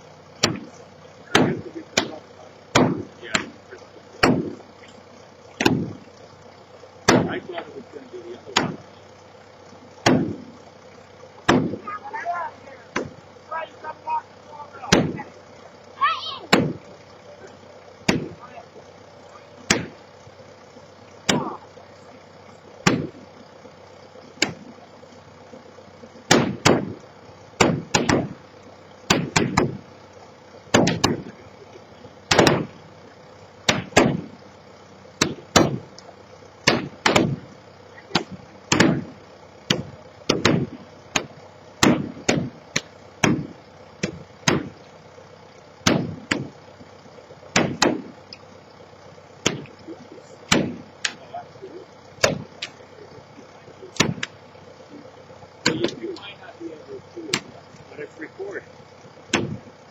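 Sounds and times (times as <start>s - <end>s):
engine hum: 0.0s - 59.9s.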